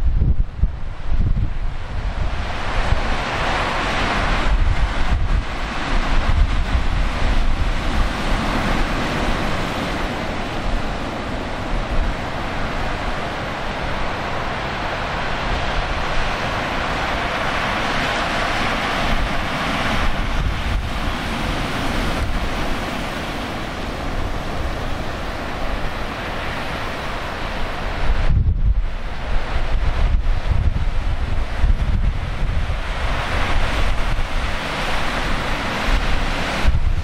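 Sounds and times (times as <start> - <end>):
wind buffeting microphone: 0.0 - 37.0
wind roaring: 0.0 - 37.0
waves breaking: 0.4 - 37.0.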